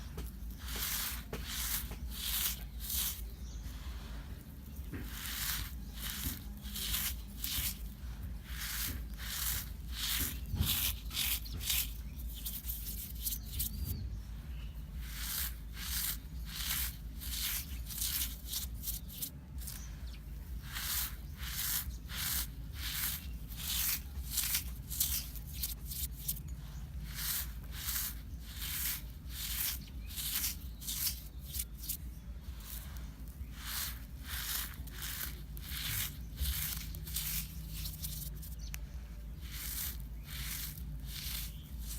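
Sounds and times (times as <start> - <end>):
dry sand crunching: 0.0 - 41.9.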